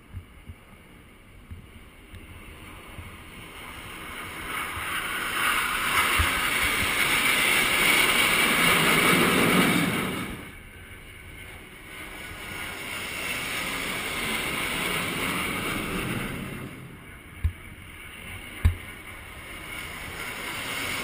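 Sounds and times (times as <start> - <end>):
jet aircraft passing overhead: 0.7 - 21.0.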